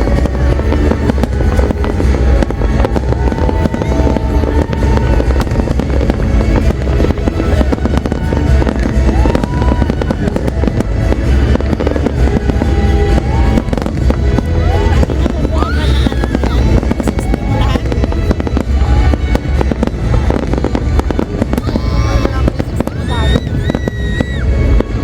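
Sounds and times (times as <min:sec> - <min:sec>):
deep booming rumble: 0:00.0 - 0:25.0
fireworks bangs: 0:00.0 - 0:25.0
music playing: 0:00.0 - 0:25.0.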